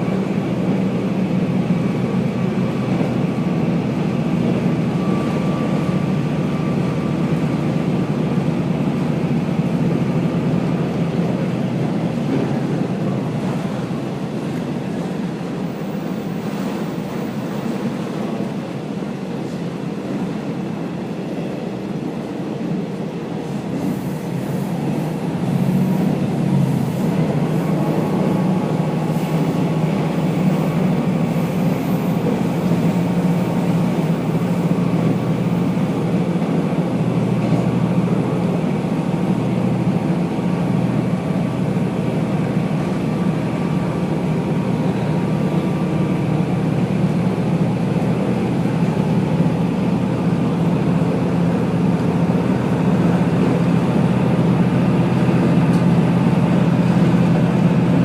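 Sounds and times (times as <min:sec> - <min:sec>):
railcar engine and wheels running: 0:00.0 - 0:58.0.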